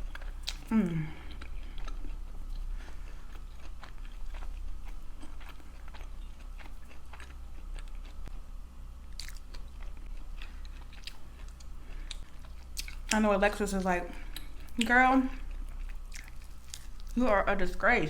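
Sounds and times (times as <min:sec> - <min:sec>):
chewing and crunching food: 0:00.0 - 0:17.8
steady low hum: 0:00.0 - 0:18.0.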